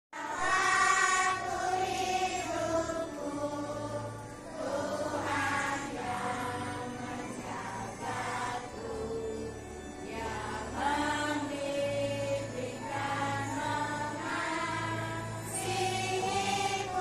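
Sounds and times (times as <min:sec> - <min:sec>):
children's choir singing: 0:00.2 - 0:17.0.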